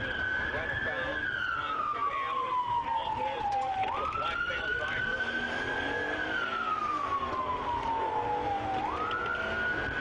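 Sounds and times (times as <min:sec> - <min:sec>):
police siren wailing: 0:00.0 - 0:10.0
road and engine noise: 0:00.0 - 0:10.0.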